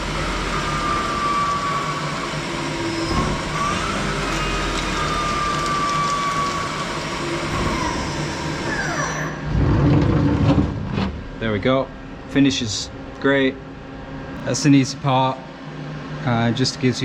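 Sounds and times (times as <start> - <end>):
machine running hum: 0.0 - 17.0.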